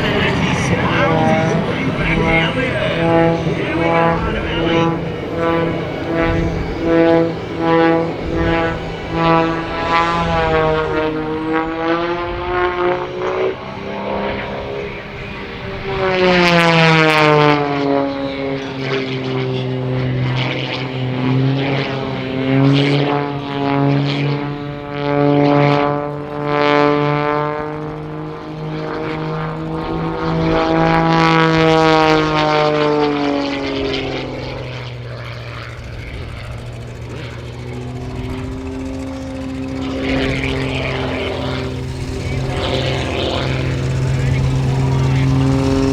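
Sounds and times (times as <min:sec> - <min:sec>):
biplane engine and propeller buzzing: 0:00.0 - 0:45.9.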